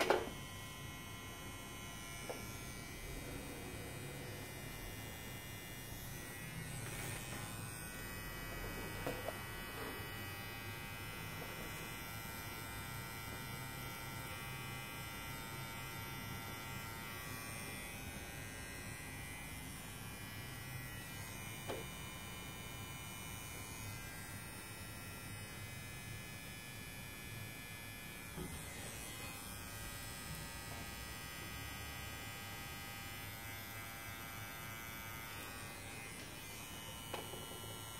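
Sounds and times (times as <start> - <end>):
tattoo pen motor buzzing: 0.0 - 37.9.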